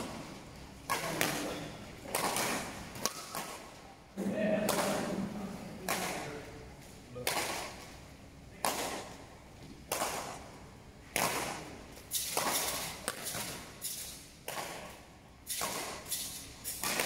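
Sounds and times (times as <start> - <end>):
rackets hitting shuttlecock: 0.0 - 5.2, 5.8 - 6.6, 7.2 - 17.0.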